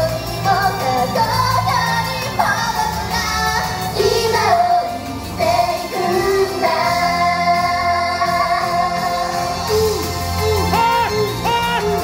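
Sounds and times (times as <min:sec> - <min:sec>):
women singing over pop music: 0:00.0 - 0:12.0.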